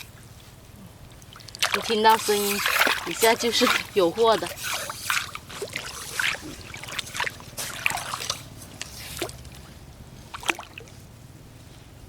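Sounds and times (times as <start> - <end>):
water splashing and trickling: 1.0 - 11.0.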